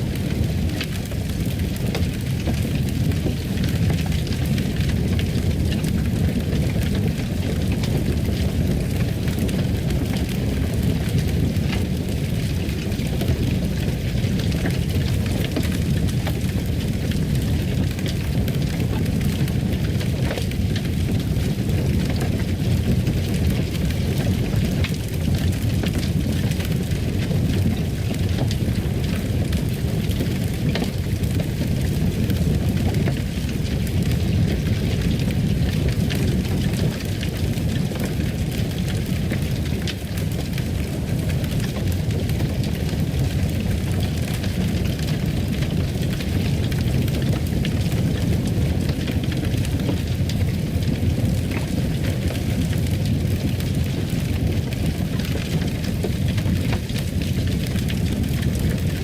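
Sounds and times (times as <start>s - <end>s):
fire low rumble: 0.0s - 59.0s
wood fire crackling and popping: 0.0s - 59.0s.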